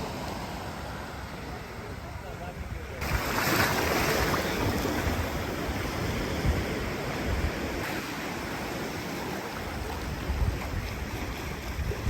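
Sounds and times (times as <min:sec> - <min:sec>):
waves breaking on a beach: 0:00.0 - 0:12.0
wind gusting on microphone: 0:02.2 - 0:12.0.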